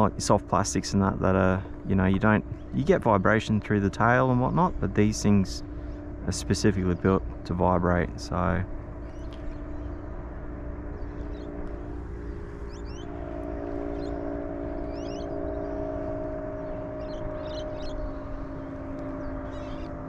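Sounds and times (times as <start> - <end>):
electric trolling motor humming: 0.0 - 20.0
rising bird chirps: 1.8 - 20.0.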